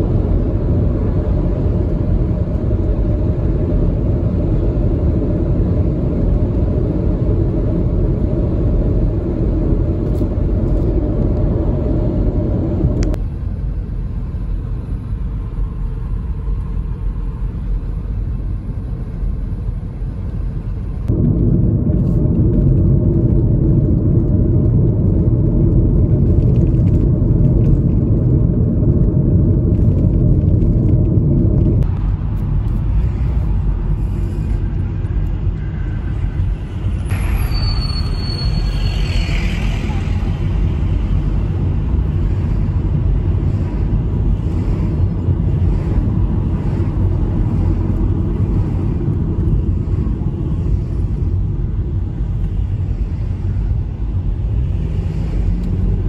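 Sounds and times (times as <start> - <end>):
car cabin road rumble: 0.0 - 56.0.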